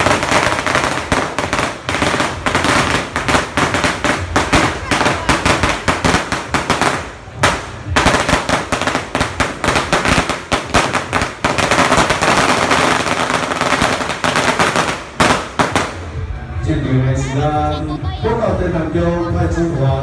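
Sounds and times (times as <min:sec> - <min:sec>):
firecrackers banging: 0:00.0 - 0:16.3.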